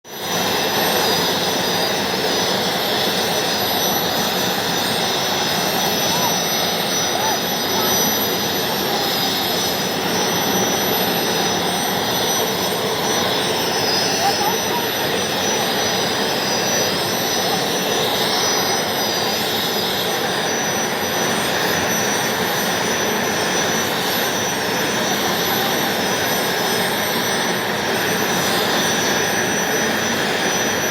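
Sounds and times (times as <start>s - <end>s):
turbine engine roaring: 0.1s - 30.9s.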